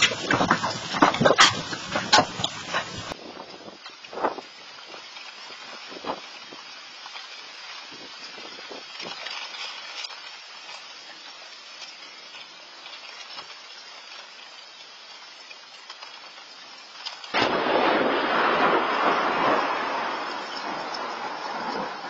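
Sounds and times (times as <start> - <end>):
hail and rain pelting: 0.0 - 22.0.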